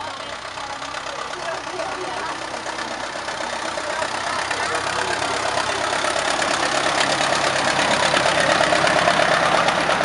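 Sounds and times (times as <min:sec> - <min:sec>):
diesel locomotive engine running: 0:00.0 - 0:10.0.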